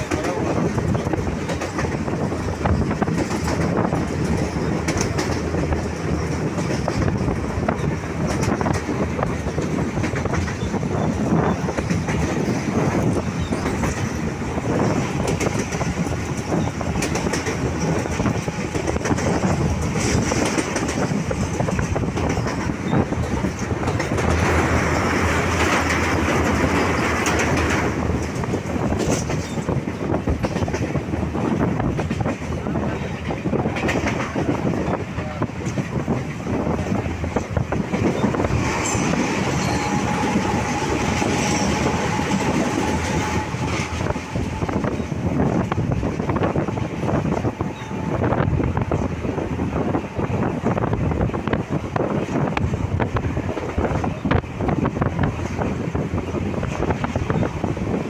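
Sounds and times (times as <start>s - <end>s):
wheels clicking over rail joints: 0.0s - 49.1s
train rumble and rattle: 0.0s - 58.0s
train rushing: 0.0s - 58.0s.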